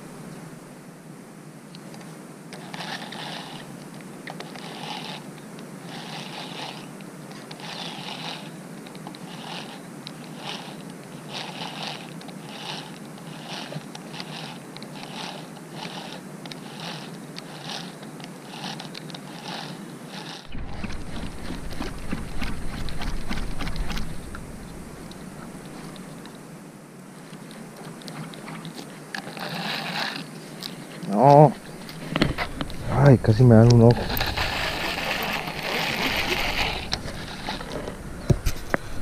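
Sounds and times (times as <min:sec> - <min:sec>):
fishing reel gears whirring: 0:02.6 - 0:26.4, 0:27.4 - 0:39.0.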